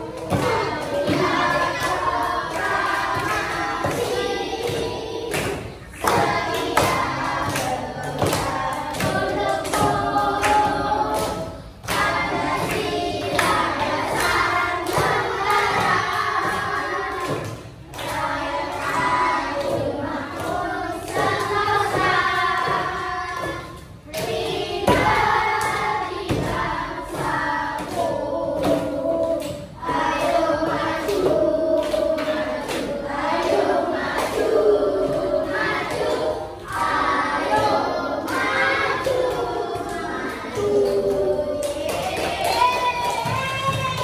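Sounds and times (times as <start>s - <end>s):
children singing: 0.0s - 44.0s
hand claps: 0.0s - 44.0s.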